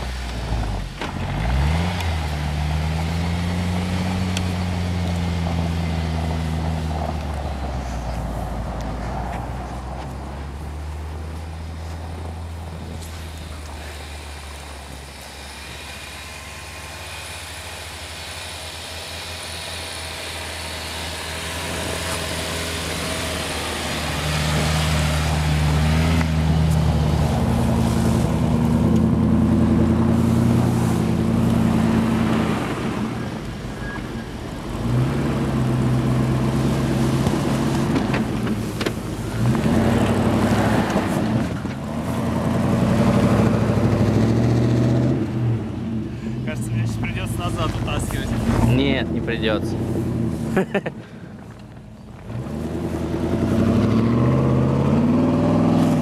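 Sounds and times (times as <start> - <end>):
car engine revving in snow: 0.0 - 56.0.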